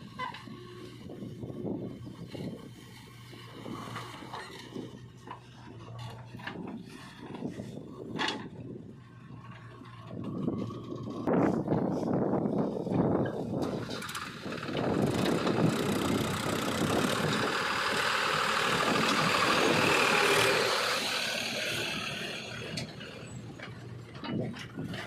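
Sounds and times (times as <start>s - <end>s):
vehicle running: 0.0s - 25.0s.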